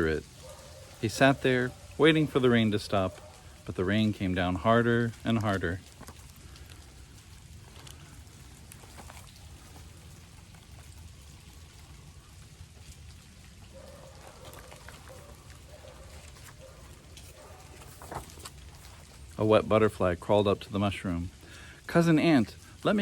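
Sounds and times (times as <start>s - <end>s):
individual raindrops: 0.0s - 23.0s
rain falling: 0.0s - 23.0s.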